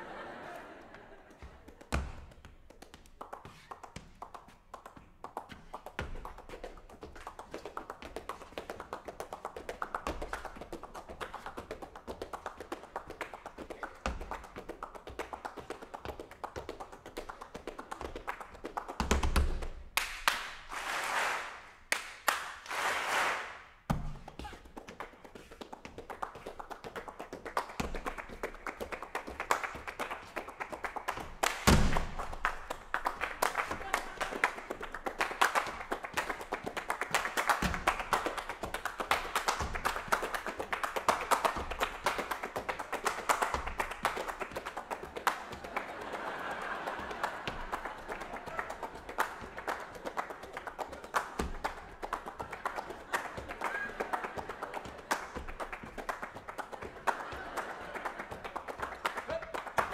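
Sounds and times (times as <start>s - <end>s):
rapid hand clapping: 0.6s - 59.9s.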